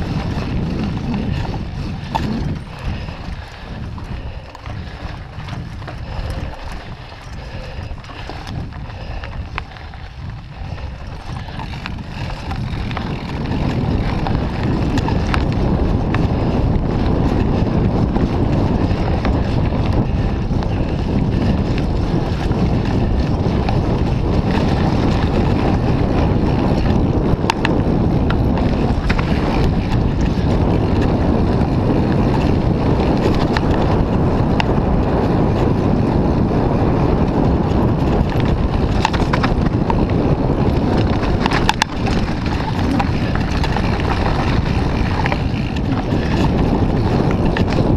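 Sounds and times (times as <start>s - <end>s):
small clicks and rattles: 0.0s - 31.2s, 37.7s - 47.9s
bike tyres rumbling on dirt: 0.0s - 47.9s
wind buffeting microphone: 0.0s - 47.9s.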